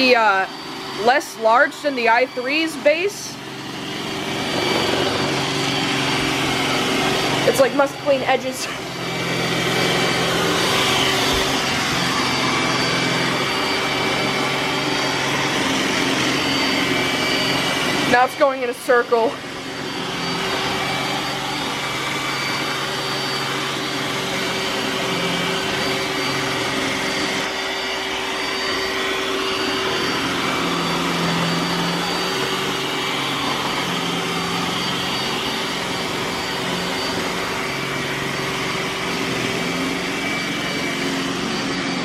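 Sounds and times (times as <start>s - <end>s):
robot vacuum whirring: 0.0s - 42.0s.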